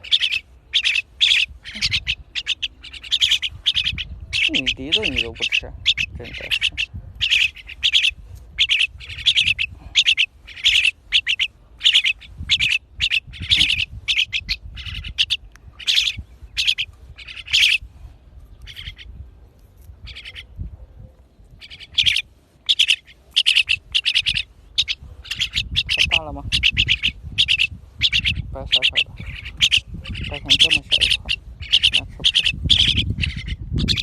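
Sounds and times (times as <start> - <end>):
bird chirping calls: 0.0 - 34.0.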